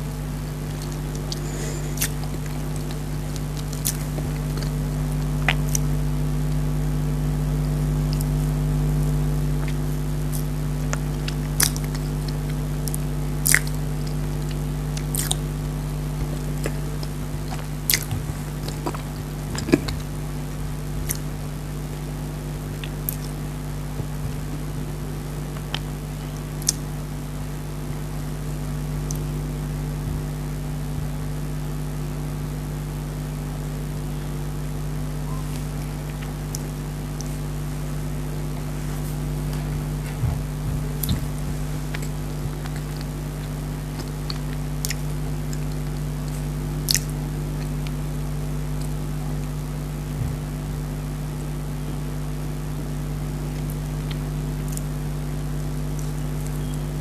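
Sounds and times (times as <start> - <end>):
mouth chewing cake: 0.0 - 31.2, 33.9 - 57.0
steady low hum: 0.0 - 57.0.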